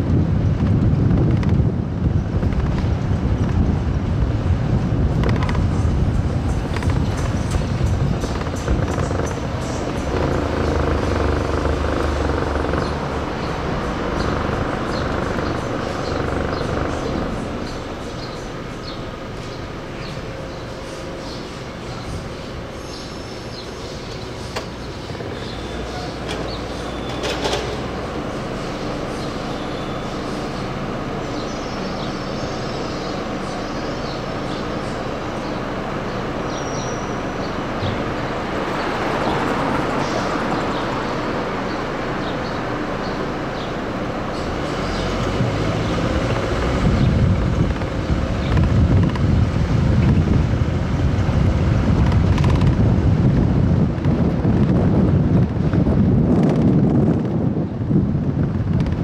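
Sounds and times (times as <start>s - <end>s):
wind buffeting microphone: 0.0s - 36.4s, 37.5s - 59.0s
rumble of vehicles running: 0.0s - 59.0s.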